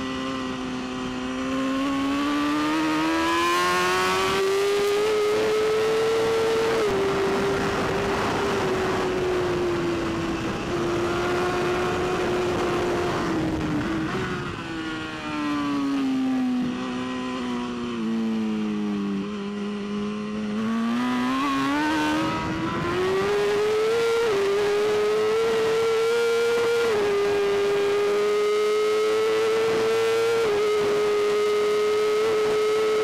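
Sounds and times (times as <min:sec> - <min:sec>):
motorcycle engine running hard: 0:00.0 - 0:33.0.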